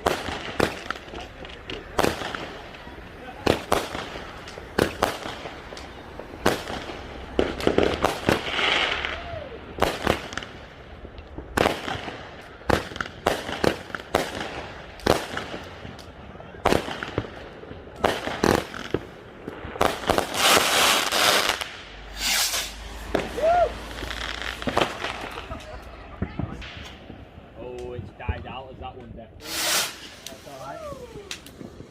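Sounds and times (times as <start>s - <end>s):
fireworks bangs: 0.0s - 31.9s
fireworks crackling: 0.0s - 31.9s.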